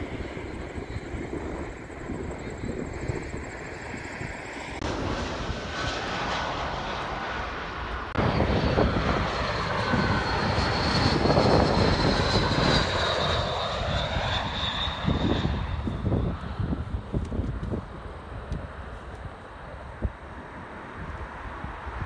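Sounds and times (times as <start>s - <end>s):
jet engines roaring with high whine: 0.0s - 22.0s.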